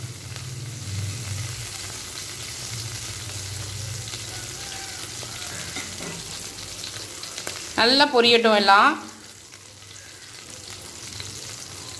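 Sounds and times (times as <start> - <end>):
spices sizzling in oil: 0.0 - 11.9.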